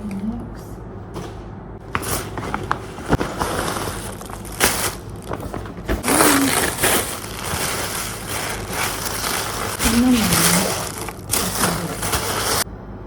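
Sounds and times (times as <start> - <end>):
steady low hum: 0.0 - 13.0
packaging rustling and crinkling: 1.8 - 12.7.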